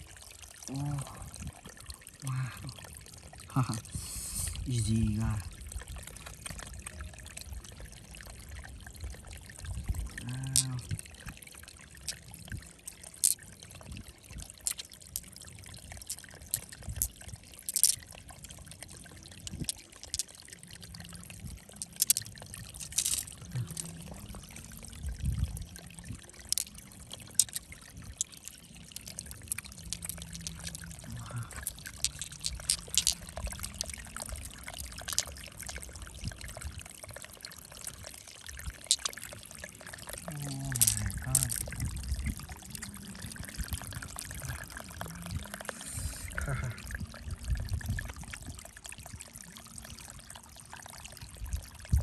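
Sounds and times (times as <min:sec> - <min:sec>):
water pouring and trickling: 0:00.0 - 0:52.0.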